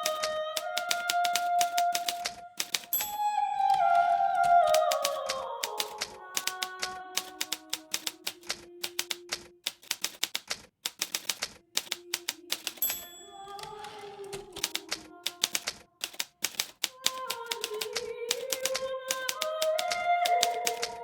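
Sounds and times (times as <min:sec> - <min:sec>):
typewriter keystrokes: 0:00.0 - 0:21.0.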